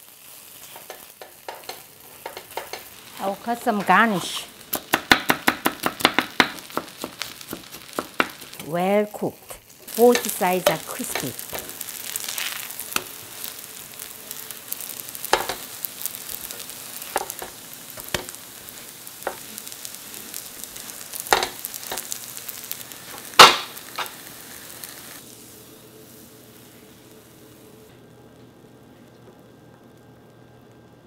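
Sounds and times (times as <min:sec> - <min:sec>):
pancakes sizzling in oil: 0:00.0 - 0:31.0.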